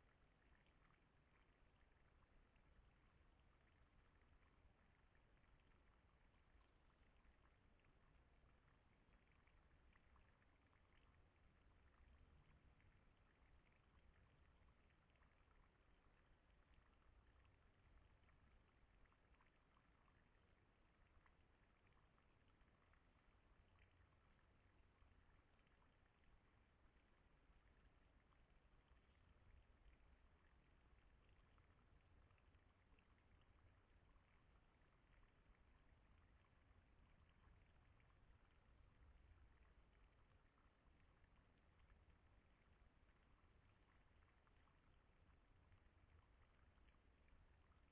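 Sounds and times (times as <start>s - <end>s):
faint low rumble and hiss: 0.0s - 47.9s
faint ticks: 0.0s - 47.9s.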